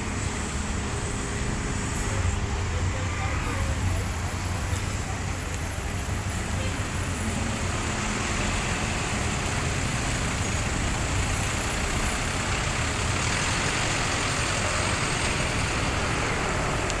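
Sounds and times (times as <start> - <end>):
heavy machinery engine rumbling: 0.0 - 17.0.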